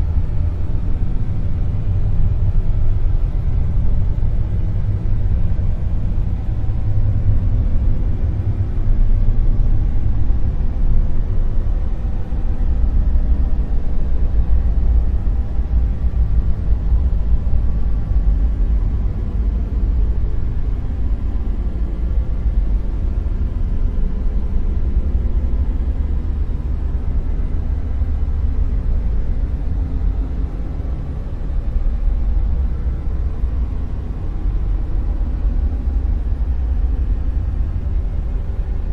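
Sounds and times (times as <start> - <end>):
deep rumbling noise: 0.0 - 38.9.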